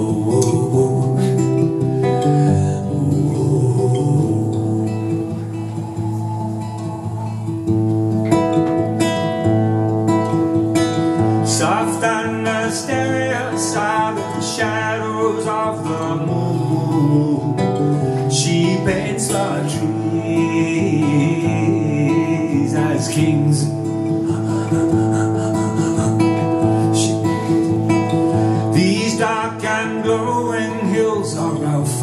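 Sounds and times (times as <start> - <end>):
man singing: 0.0 - 5.9, 11.0 - 32.0
acoustic guitar chords: 0.0 - 32.0.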